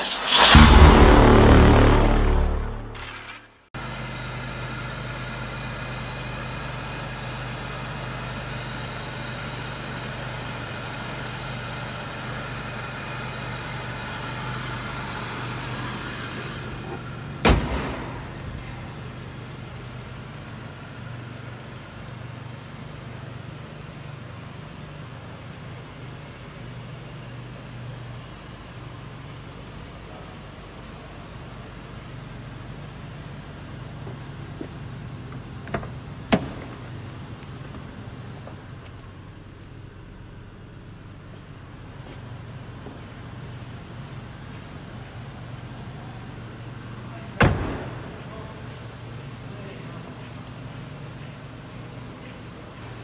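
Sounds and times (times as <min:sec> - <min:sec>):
car engine idling: 0:03.8 - 0:53.0.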